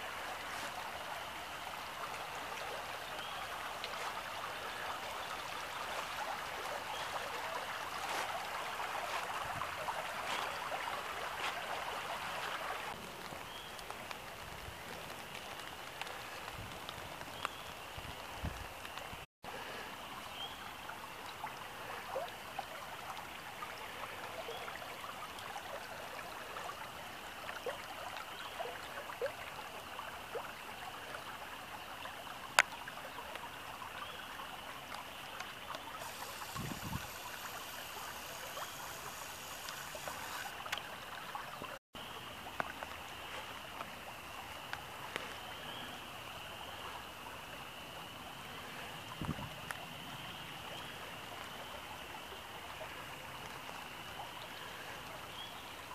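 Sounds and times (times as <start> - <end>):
creek running: 0.0 - 55.9
water splashing and trickling: 0.0 - 55.9.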